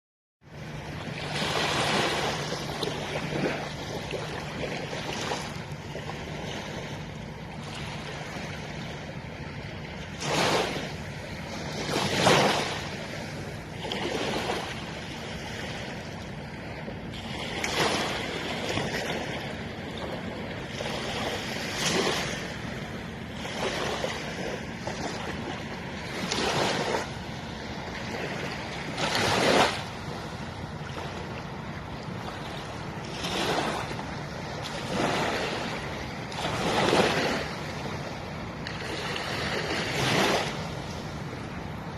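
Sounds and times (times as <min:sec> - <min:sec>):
waves breaking on beach: 0:00.5 - 0:41.9.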